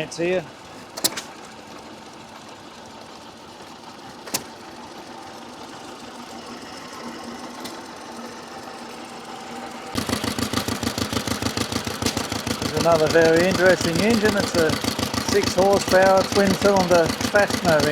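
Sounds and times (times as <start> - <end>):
faint steady engine noise: 0.0 - 17.9
stationary engine exhaust beats: 0.0 - 17.9.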